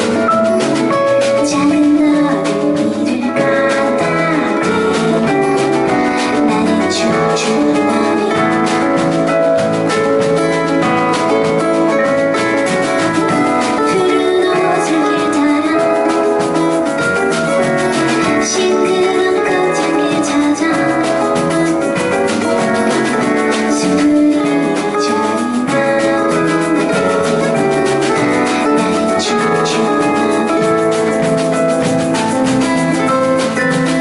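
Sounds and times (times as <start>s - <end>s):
live band playing a song: 0.0s - 34.0s.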